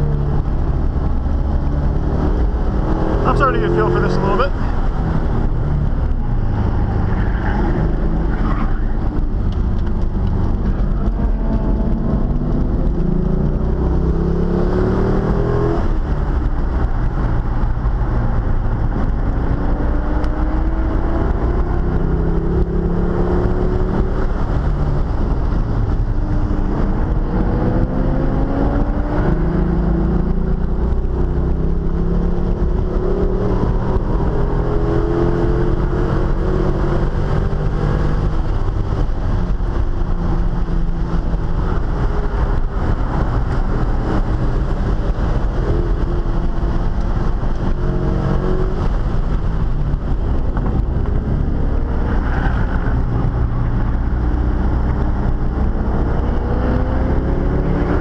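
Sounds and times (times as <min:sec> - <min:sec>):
car engine accelerating: 0:00.0 - 0:58.0
road and wind noise: 0:00.0 - 0:58.0.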